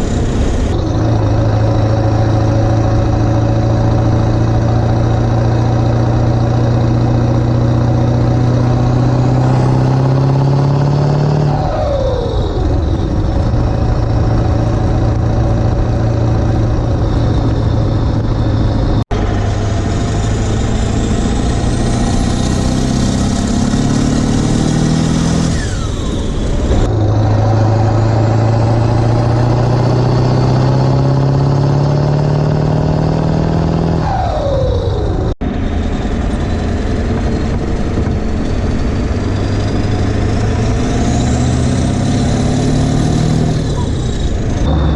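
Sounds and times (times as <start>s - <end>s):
diesel engine accelerating: 0.0s - 44.9s.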